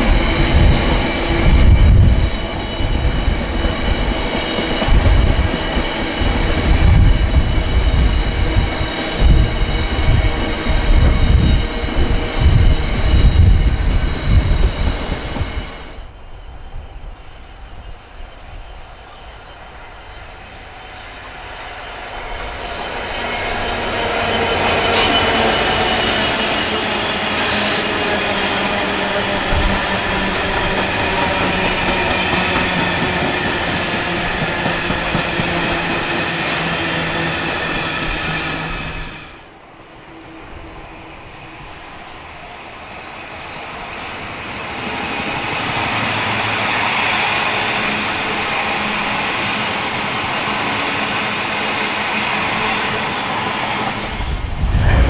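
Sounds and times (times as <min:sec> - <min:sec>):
train whining tones: 0:00.0 - 0:55.0.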